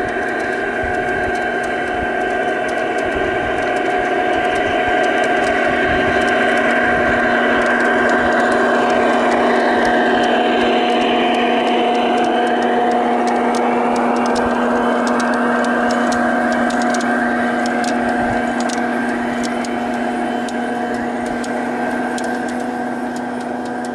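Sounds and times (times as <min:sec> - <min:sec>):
diesel engine drone from speaker: 0:00.0 - 0:23.9
wagon wheels clicking on track: 0:00.0 - 0:23.9.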